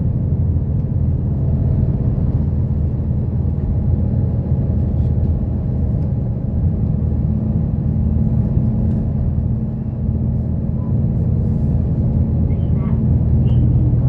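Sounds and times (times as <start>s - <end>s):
bus engine drone and road rumble: 0.0s - 14.0s.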